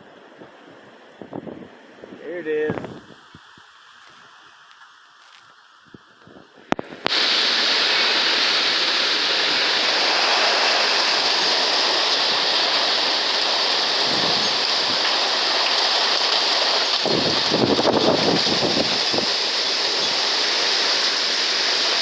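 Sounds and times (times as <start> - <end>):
rain and wind rushing: 0.0 - 22.0
rain pelting phone: 2.1 - 22.0.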